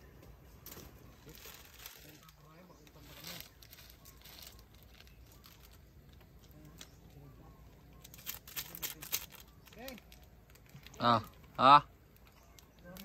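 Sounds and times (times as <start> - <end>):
packaging crinkling and tearing: 1.1 - 7.0, 8.0 - 13.0.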